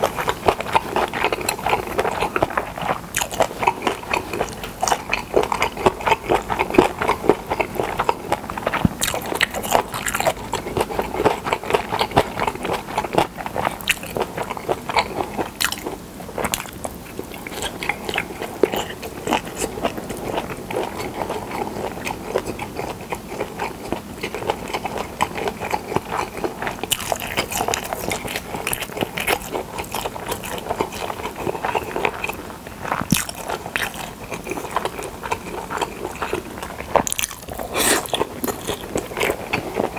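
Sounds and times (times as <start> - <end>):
close chewing with wet mouth clicks: 0.0 - 39.9.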